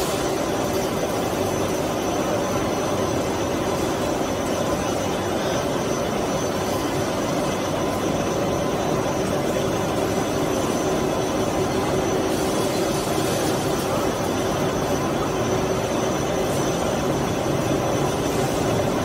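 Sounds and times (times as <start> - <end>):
industrial machine hum: 0.0 - 19.0.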